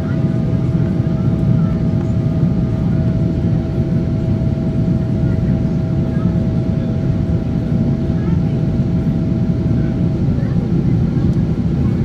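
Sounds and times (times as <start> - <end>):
aircraft engine rumble: 0.0 - 12.0.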